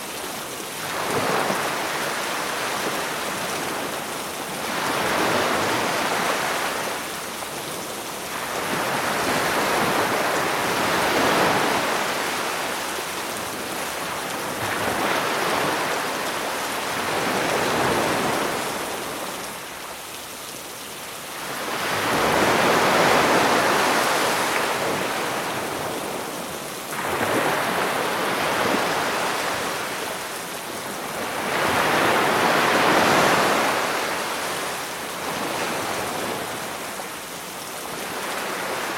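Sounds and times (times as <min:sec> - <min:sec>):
rain hiss: 0:00.0 - 0:38.9
sea waves breaking: 0:00.8 - 0:07.2, 0:08.2 - 0:19.9, 0:21.3 - 0:37.0.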